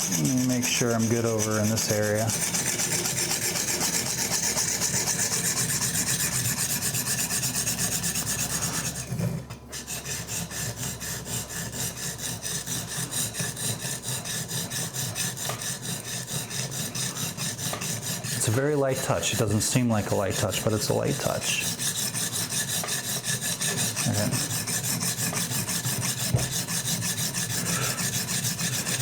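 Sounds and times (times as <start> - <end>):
sharpening stone scraping knife: 0.0 - 29.0.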